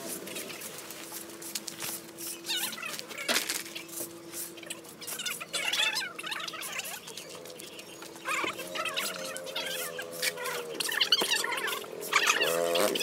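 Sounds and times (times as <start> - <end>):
high wavering chirps: 0.0 - 13.0
leaves and brush rustling: 0.0 - 13.0.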